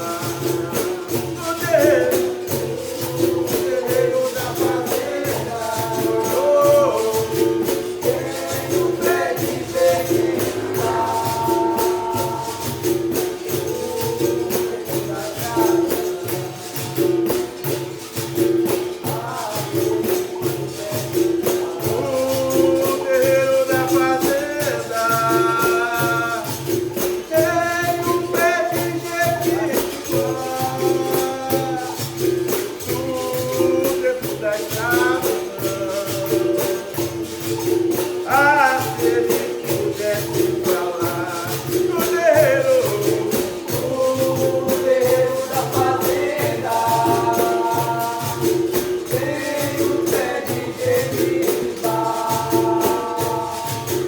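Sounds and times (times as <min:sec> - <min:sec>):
berimbau: 0:00.0 - 0:54.0
pandeiro rhythm: 0:00.0 - 0:54.0
voices singing: 0:00.0 - 0:54.0.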